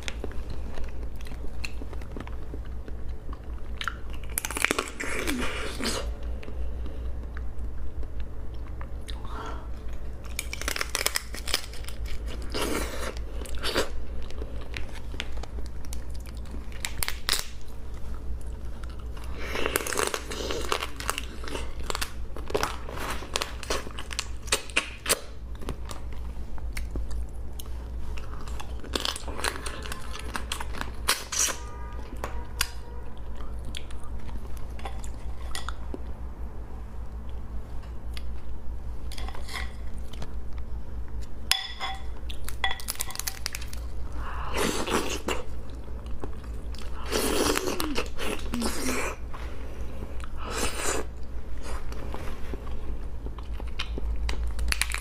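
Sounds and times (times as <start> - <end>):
crunching and chewing crab: 0.0 - 31.7, 42.1 - 55.0
steady low hum: 0.0 - 55.0.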